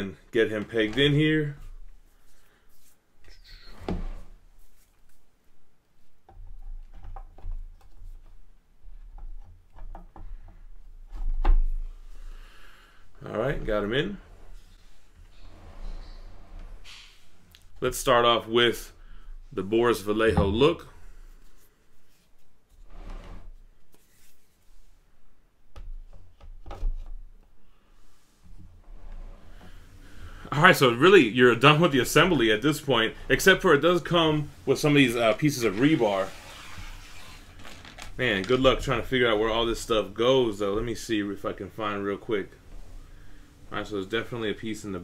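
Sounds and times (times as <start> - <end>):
rubbing and scraping of statue parts: 0.0 - 25.0, 28.0 - 45.0.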